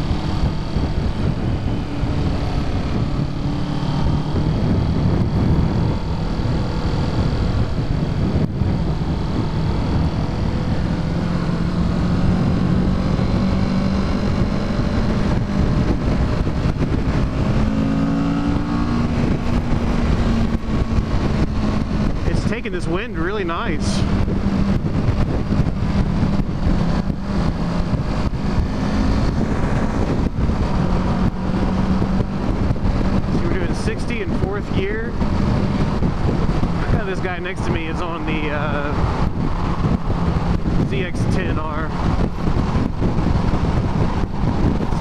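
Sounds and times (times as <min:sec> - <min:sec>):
motorcycle engine running: 0:00.0 - 0:45.0
wind rush: 0:00.0 - 0:45.0.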